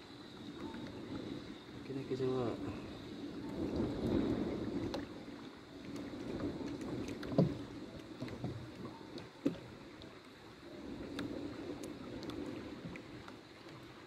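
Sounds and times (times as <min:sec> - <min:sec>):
water lapping against boat: 0:00.0 - 0:14.0.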